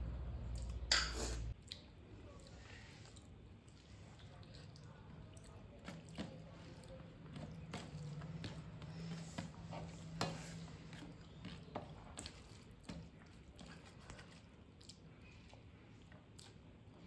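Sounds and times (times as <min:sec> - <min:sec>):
low steady hum: 0:00.0 - 0:17.0
wet chewing and mouth clicks: 0:00.5 - 0:17.0.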